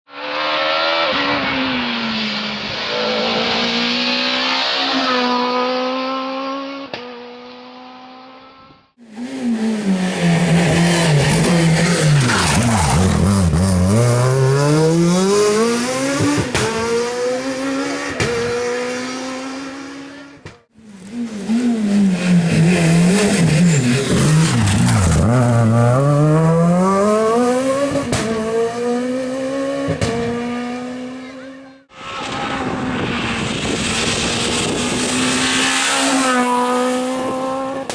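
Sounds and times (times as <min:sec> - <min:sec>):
rally cars passing: 0:00.1 - 0:37.9.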